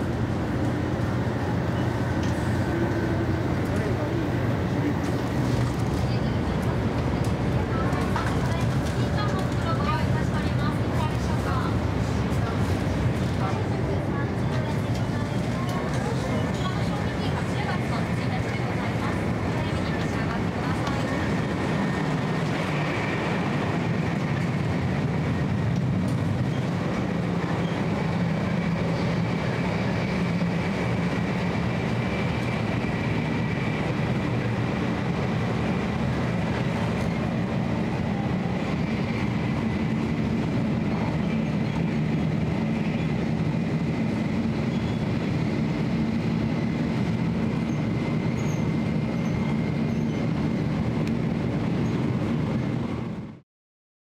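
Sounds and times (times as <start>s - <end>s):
train interior low rumble: 0.0s - 53.4s.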